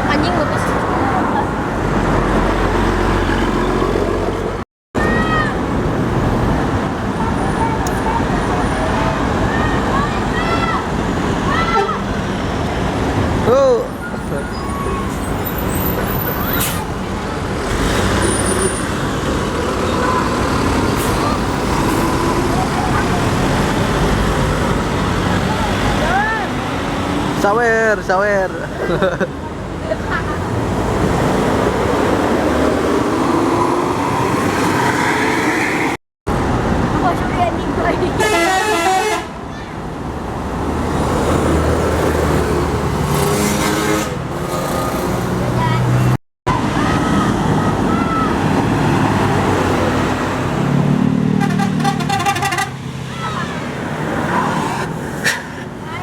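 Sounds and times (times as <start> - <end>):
buses passing: 0.0 - 56.0.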